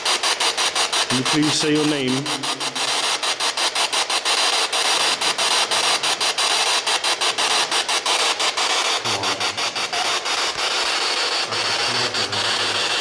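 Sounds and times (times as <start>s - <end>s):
choppy radio static: 0.0s - 13.0s.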